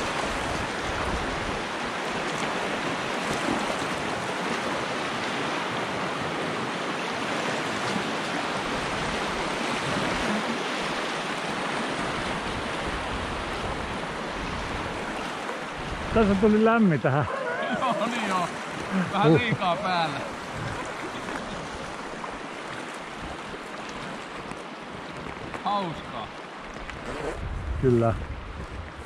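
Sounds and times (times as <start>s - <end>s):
river rapids rushing: 0.0s - 27.2s.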